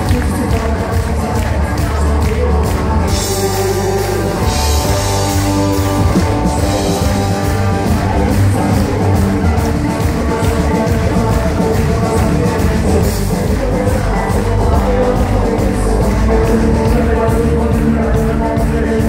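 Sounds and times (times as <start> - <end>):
drum kit: 0.0 - 19.0
electric guitar: 0.0 - 19.0
man singing: 0.0 - 19.0.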